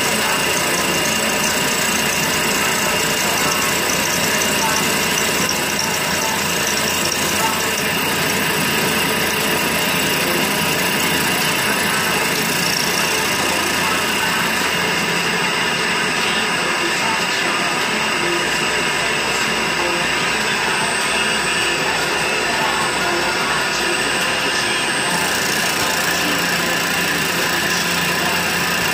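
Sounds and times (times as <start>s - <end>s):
milling machine running: 0.0s - 28.9s
steady high tones: 0.0s - 28.9s.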